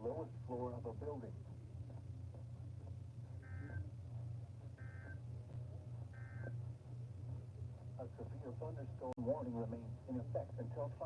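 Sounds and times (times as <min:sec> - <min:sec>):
low radio interference hum: 0:00.0 - 0:11.0.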